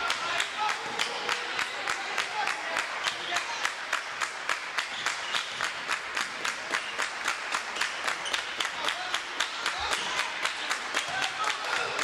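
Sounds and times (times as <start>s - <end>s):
rhythmic hand clapping: 0.0s - 12.0s.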